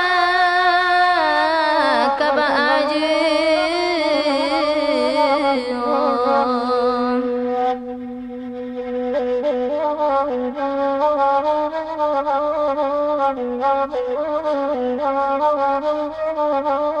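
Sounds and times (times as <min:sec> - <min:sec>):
bamboo flute melody: 0:01.2 - 0:17.0.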